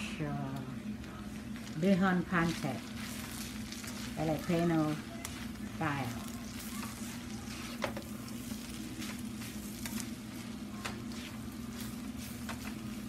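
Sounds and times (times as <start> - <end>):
noodles sizzling in a wok: 1.3 - 13.0.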